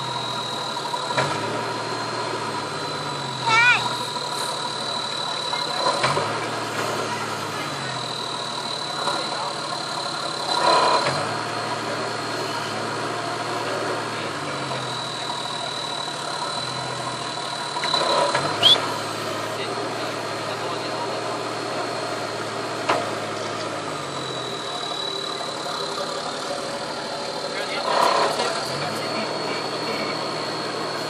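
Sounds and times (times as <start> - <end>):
diesel engine running at low revs: 0.0 - 31.0.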